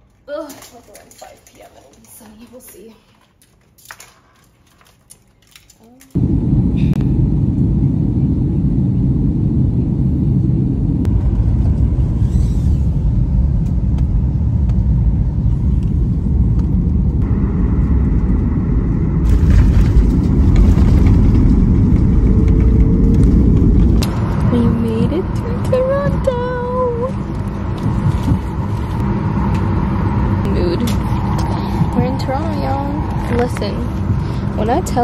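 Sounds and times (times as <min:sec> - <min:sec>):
jet airliner cabin rumble: 0:06.1 - 0:35.0.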